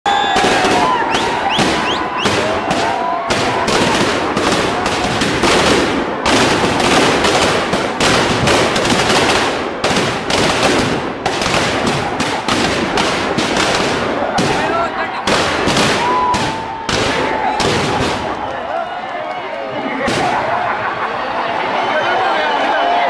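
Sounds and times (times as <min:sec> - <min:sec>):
firecrackers going off: 0:00.1 - 0:21.0.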